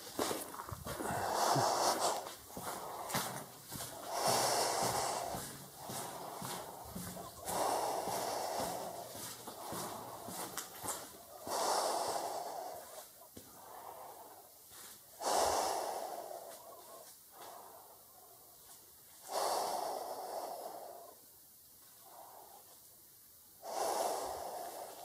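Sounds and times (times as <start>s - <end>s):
person breathing heavily: 0.0s - 21.2s, 23.6s - 25.0s.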